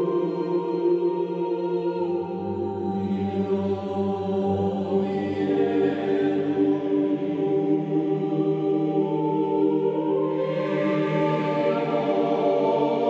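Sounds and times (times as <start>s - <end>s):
slow choir-like chords: 0.0s - 13.0s.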